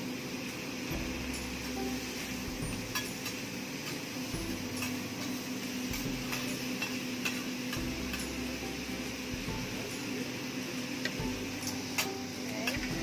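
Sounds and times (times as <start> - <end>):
food sizzling on griddle: 0.0 - 13.0.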